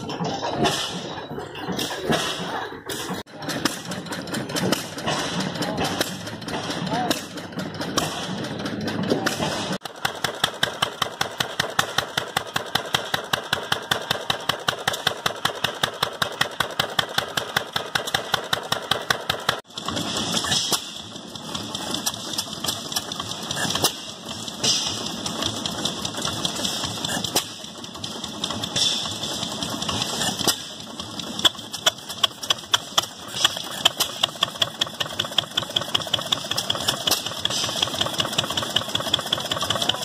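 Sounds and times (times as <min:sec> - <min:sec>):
stationary gas engine firing: 0:00.0 - 0:40.0
upright engine clattering: 0:00.0 - 0:40.0.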